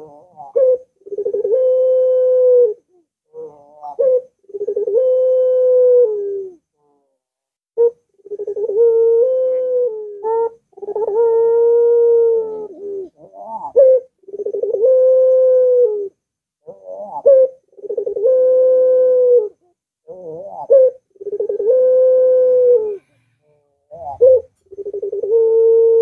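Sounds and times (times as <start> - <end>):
dove cooing: 0.0 - 7.1, 7.8 - 26.0.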